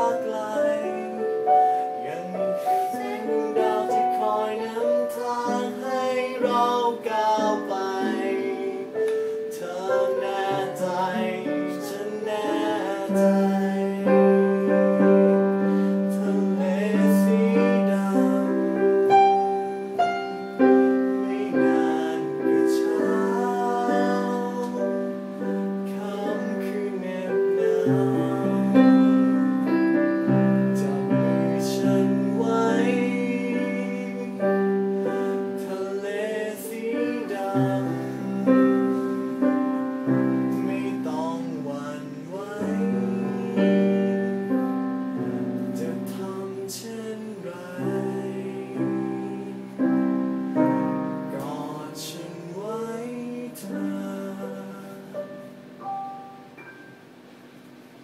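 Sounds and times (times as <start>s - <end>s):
man singing pop ballad: 0.0s - 55.4s
instrumental accompaniment: 0.0s - 58.0s.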